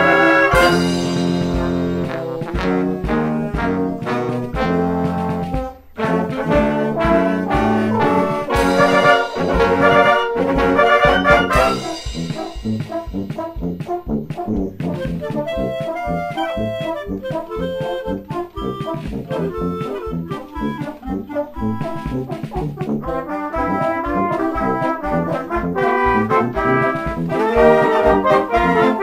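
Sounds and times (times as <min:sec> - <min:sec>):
brass playing: 0:00.0 - 0:29.0
clarinets and saxophones: 0:00.0 - 0:29.0
wind band playing: 0:00.0 - 0:29.0.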